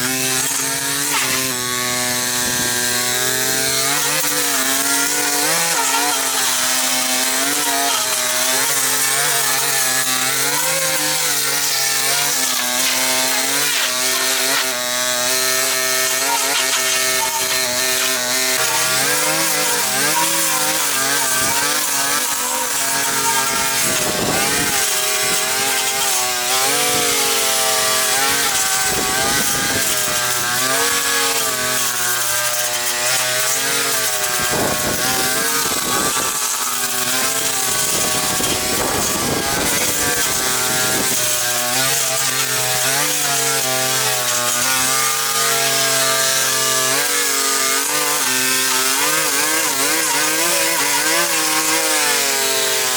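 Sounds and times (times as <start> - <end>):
power tool engine revving: 0.0 - 52.9.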